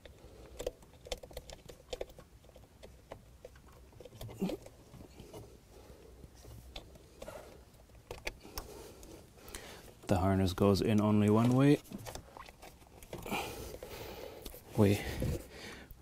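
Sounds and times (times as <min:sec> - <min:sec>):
plastic and wiring rustling: 0:00.0 - 0:16.0.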